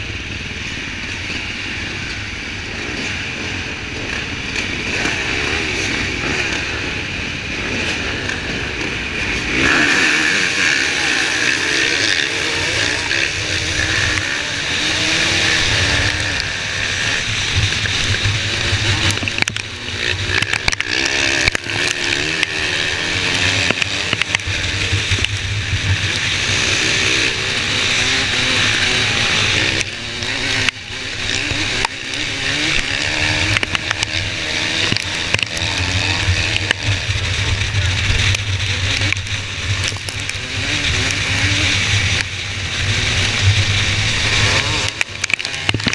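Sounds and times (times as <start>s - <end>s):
motocross bike engine revving: 0.0s - 45.9s
other motorbike engines: 0.0s - 45.9s.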